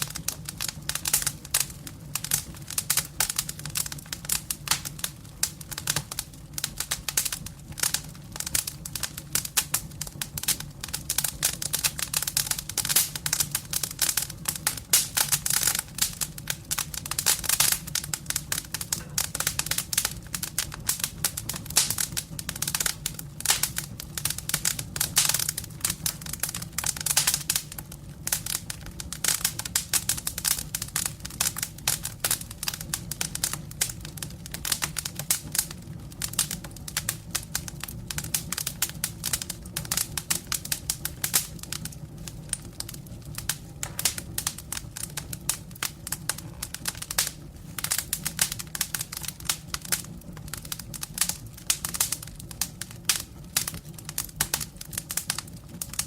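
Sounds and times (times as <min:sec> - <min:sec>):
fire low rumble: 0:00.0 - 0:56.0
logs crackling and popping: 0:00.0 - 0:56.0.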